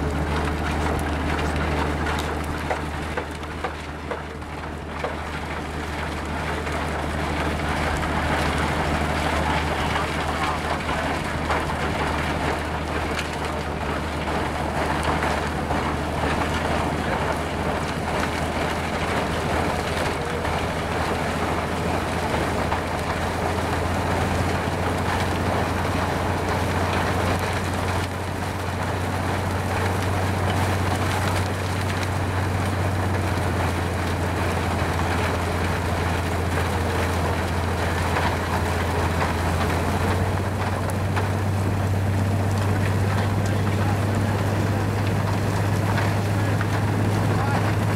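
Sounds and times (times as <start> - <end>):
low engine drone: 0.0 - 47.9.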